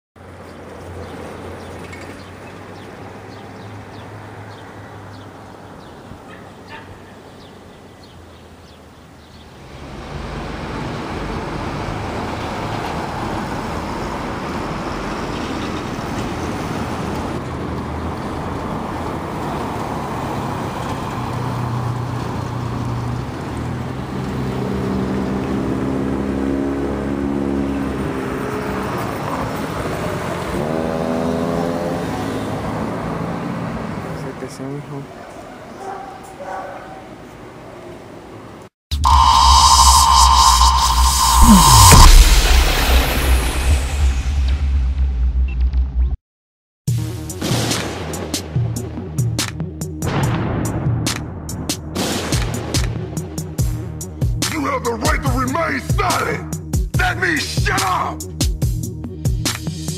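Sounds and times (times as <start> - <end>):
city street traffic: 0.2 - 42.0, 47.0 - 50.1, 51.1 - 59.9.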